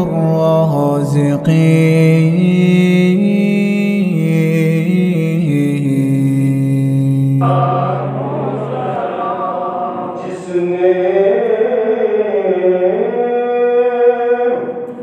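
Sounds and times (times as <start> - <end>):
person chanting recitation: 0.0 - 15.0.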